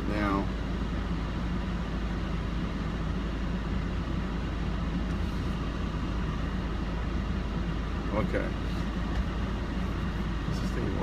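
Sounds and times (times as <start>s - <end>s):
car cabin rumble and hiss: 0.0s - 11.0s.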